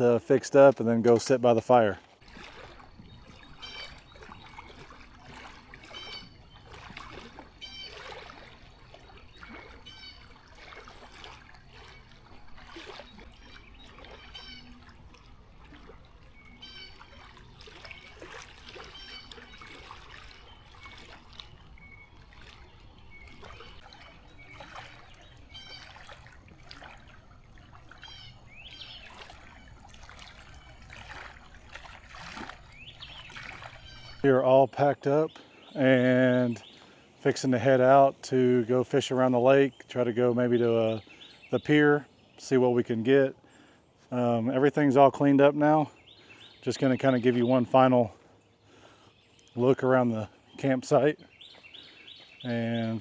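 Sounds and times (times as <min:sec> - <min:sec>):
water trickling and lapping: 0:00.0 - 0:53.0.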